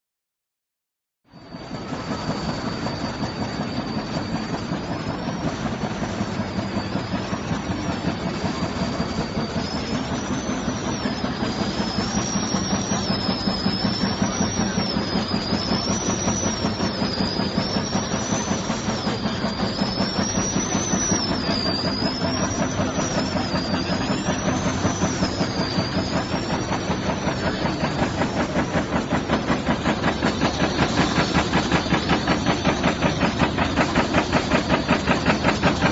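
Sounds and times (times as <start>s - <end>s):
high thin whine: 1.3s - 35.9s.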